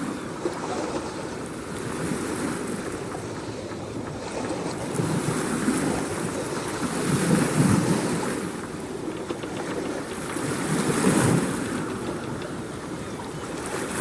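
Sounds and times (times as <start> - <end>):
rushing wind: 0.0 - 14.0
water noise: 0.0 - 14.0.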